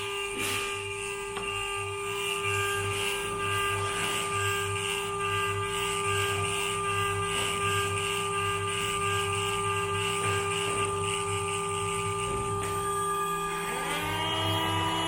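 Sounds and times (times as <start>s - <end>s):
low pulsing hum: 0.0s - 15.0s
machine spindle whining: 0.0s - 15.0s.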